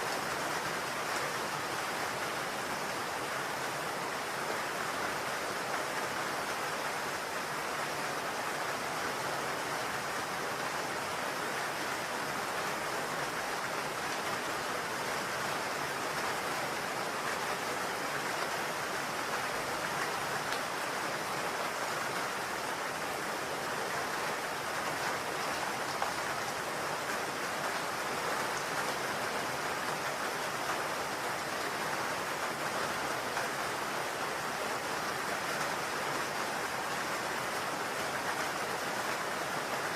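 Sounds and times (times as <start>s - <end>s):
steady rain on a roof: 0.0s - 39.9s.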